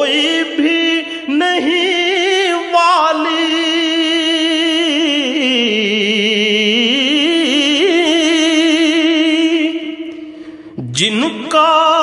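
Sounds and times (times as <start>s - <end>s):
man singing a long vibrato note: 0.0s - 12.0s.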